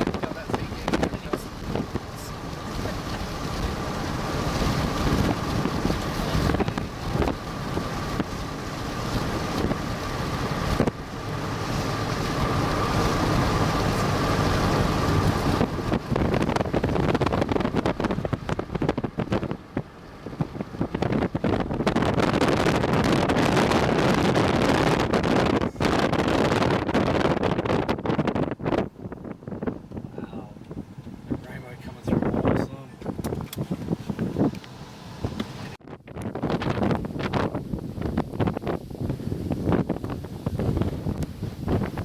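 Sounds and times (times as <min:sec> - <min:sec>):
wind gusting over microphone: 0:00.0 - 0:42.0.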